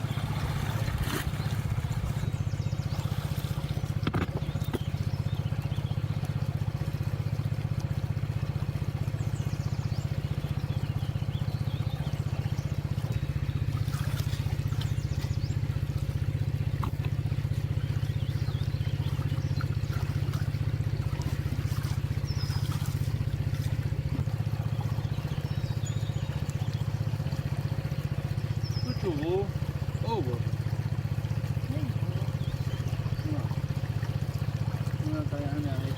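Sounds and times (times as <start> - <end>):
small engine humming: 0.0 - 35.9.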